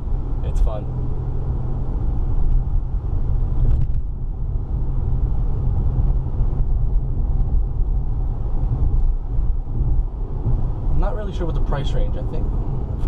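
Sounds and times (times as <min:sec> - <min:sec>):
car cabin engine and road rumble: 0:00.0 - 0:13.0.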